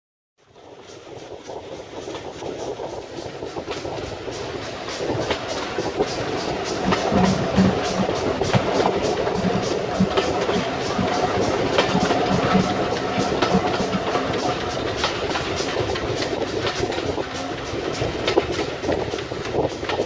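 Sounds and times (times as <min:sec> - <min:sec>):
carriage wheels rumbling on rails: 0:00.4 - 0:20.0
steam locomotive chuffing: 0:00.4 - 0:20.0.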